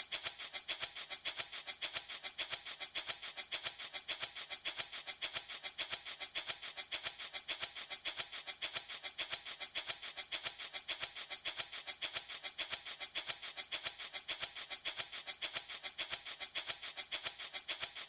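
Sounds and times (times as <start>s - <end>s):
wooden rattle shaking: 0.0s - 18.0s.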